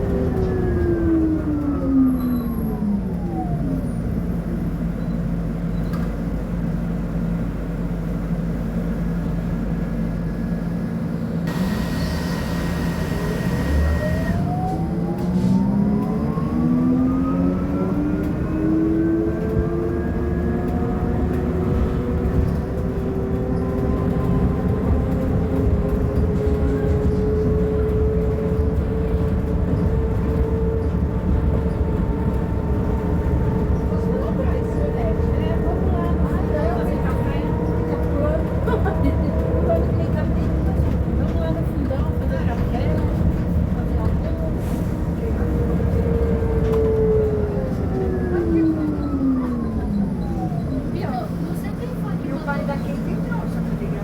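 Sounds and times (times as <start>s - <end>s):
trolleybus electric motor whining: 8.4s - 54.0s.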